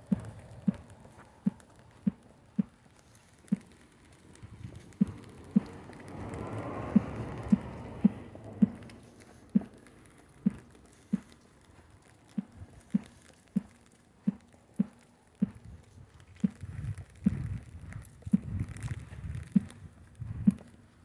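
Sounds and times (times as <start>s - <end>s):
footsteps on wet pavement: 0.0s - 21.0s.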